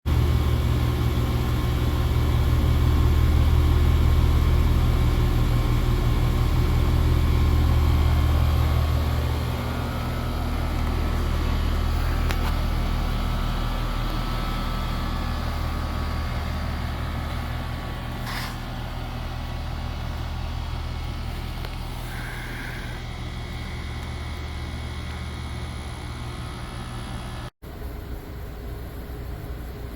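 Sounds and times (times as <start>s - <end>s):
dehumidifier hum with fan noise: 0.1s - 29.9s.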